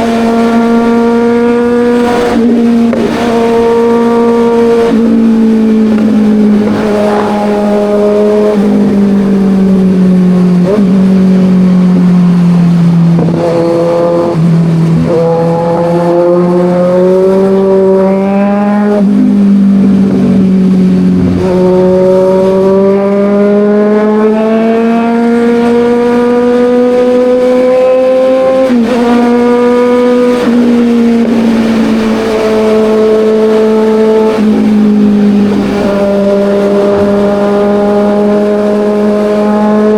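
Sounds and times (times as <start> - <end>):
gear changes: 0.0 - 39.9
motorcycle engine under load: 0.0 - 39.9
wind rush: 0.0 - 39.9.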